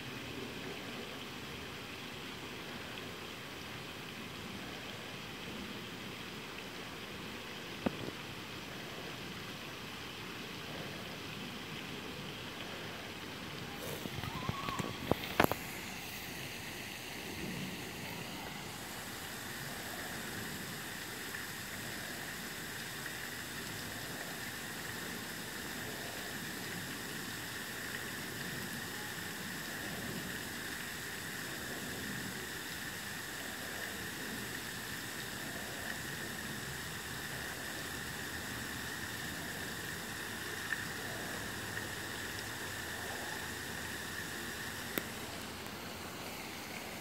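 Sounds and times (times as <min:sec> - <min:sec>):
outdoor background hiss: 0:00.0 - 0:47.0.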